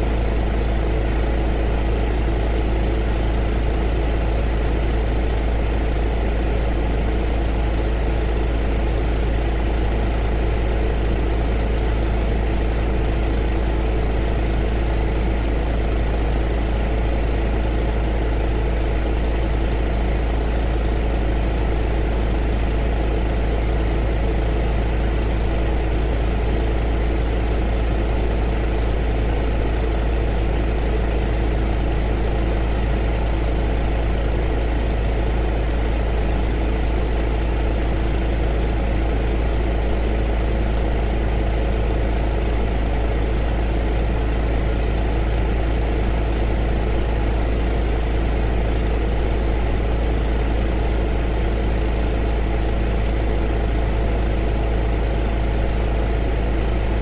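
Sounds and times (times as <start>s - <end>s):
heater droning: 0.0s - 57.0s.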